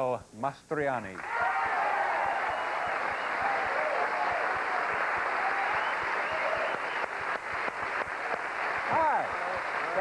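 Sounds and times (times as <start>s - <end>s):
studio audience applauding: 1.2s - 10.0s.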